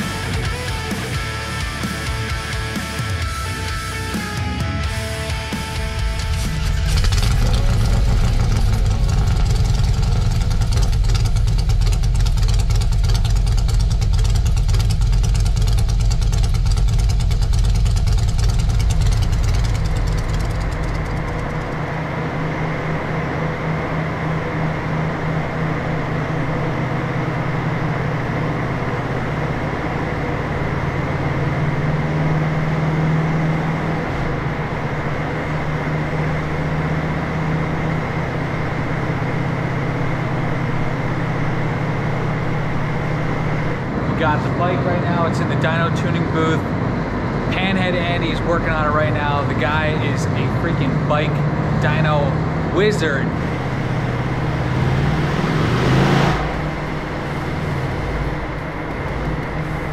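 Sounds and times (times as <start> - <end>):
motorcycle engine running on a dyno: 0.0 - 59.9.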